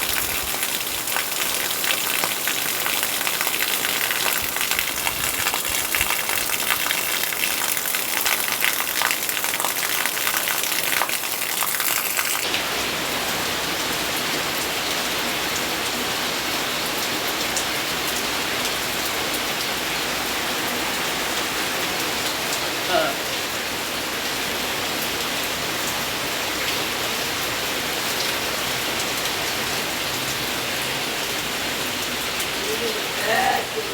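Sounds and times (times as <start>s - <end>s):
heavy rain falling: 0.0s - 33.9s
raindrops crackling on surfaces: 0.0s - 33.9s.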